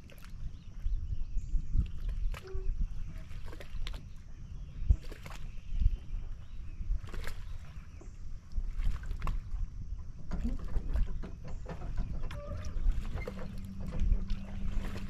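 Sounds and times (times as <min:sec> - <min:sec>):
rumble of water and wind: 0:00.0 - 0:15.0.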